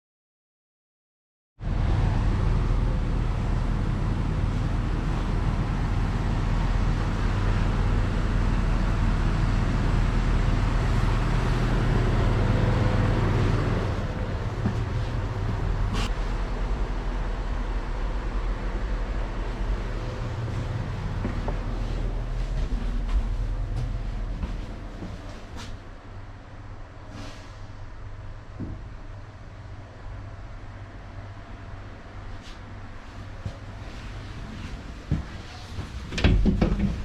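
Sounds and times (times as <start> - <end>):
train rumbling: 1.6 - 37.0.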